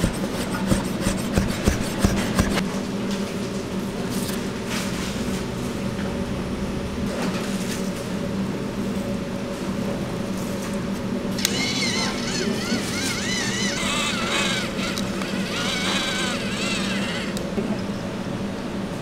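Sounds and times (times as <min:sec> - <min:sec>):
kitchen machine hum: 0:00.0 - 0:19.0.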